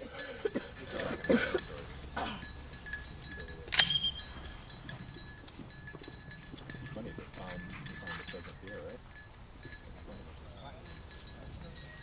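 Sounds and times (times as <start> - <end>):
small collar bell jingling: 0.0 - 12.0.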